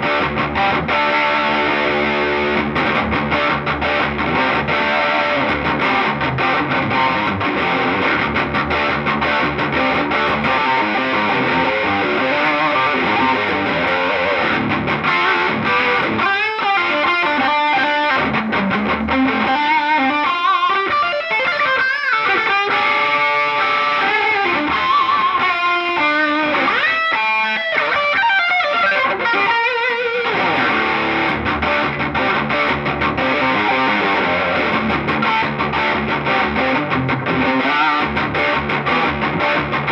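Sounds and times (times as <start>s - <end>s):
electric guitar through amp: 0.0s - 39.9s.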